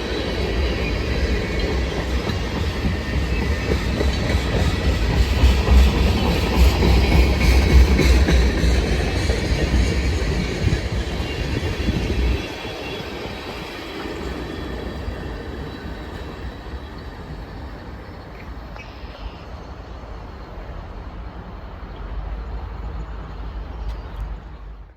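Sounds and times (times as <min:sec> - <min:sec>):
freight train rolling on rails: 0:00.0 - 0:24.9.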